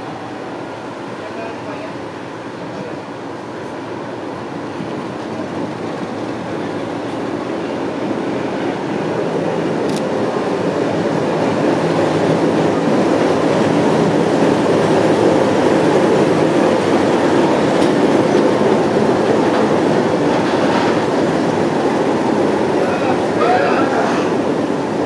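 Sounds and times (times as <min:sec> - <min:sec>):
diesel locomotive engine roar: 0:00.0 - 0:25.0
train wheels rolling on rails: 0:00.0 - 0:25.0.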